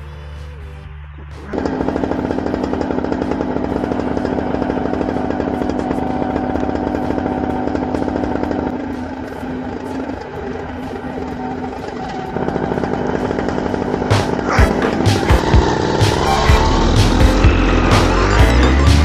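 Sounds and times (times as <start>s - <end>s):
paramotor engine idling: 1.5s - 19.0s.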